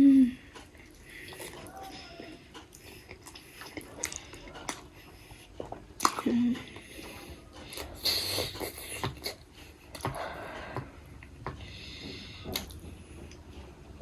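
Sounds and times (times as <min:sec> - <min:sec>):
chewing: 0:00.5 - 0:13.7.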